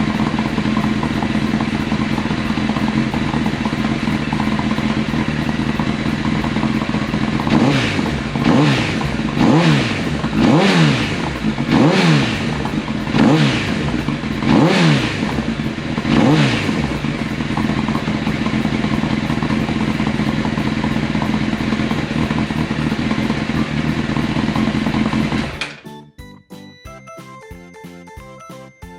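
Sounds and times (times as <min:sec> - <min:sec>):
motorcycle engine idling and revving: 0:00.0 - 0:25.8.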